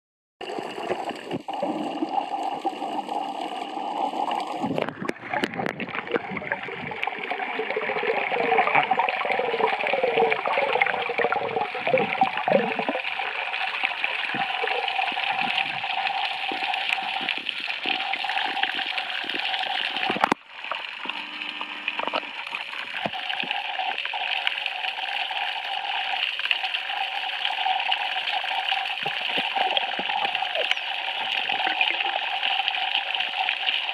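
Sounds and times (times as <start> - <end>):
underwater hiss and gurgle: 0.4 - 33.9.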